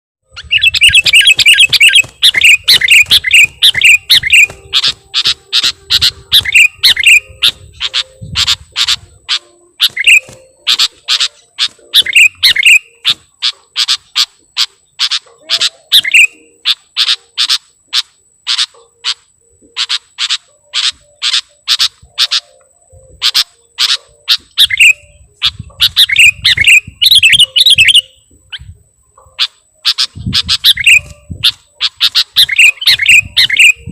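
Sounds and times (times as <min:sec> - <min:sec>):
bulbul chirping and warbling: 0:00.3 - 0:33.9.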